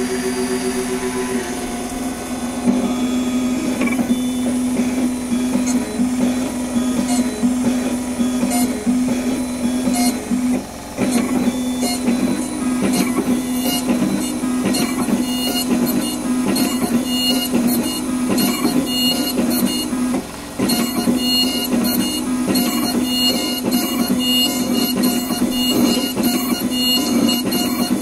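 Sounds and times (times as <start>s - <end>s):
milling machine hum: 0.0s - 28.0s.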